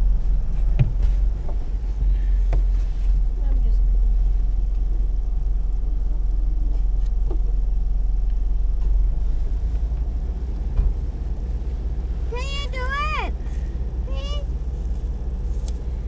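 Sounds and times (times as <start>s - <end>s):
vehicle engine rumbling low: 0.0s - 16.0s.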